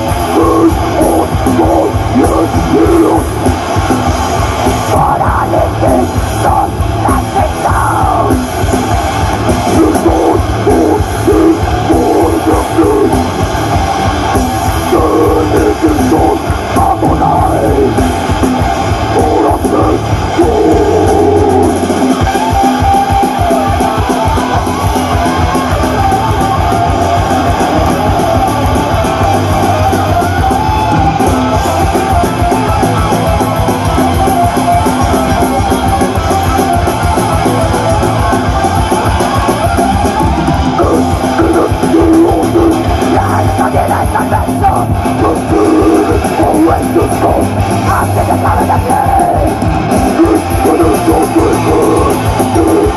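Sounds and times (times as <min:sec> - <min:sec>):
live heavy metal band: 0:00.0 - 0:52.9.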